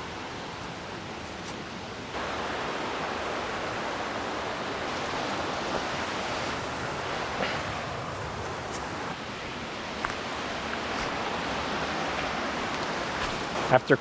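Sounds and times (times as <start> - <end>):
waterfall and creek rushing: 0.0 - 14.0.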